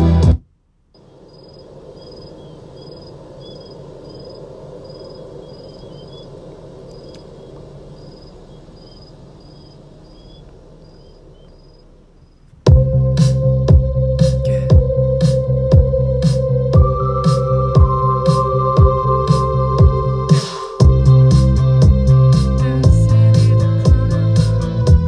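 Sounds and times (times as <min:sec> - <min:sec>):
steady hiss: 0:00.7 - 0:13.4, 0:16.2 - 0:25.0
lower chirp: 0:01.0 - 0:25.0.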